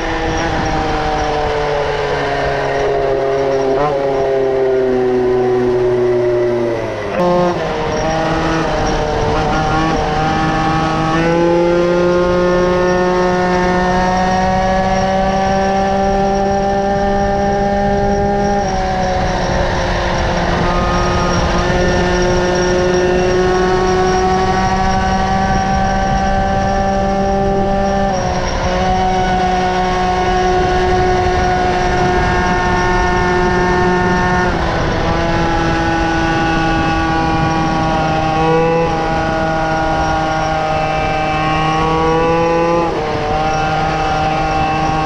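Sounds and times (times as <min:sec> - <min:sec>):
moped engine at high revs: 0:00.0 - 0:45.0.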